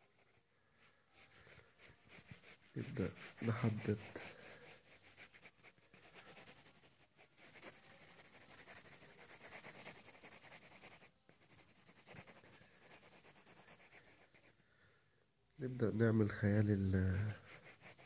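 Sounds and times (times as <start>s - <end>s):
pencil scratching on paper: 0.0s - 14.6s, 16.2s - 18.0s.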